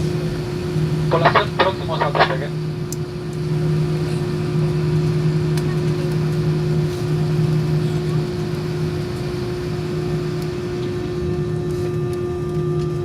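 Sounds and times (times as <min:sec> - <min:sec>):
airplane cabin hum: 0:00.0 - 0:13.0.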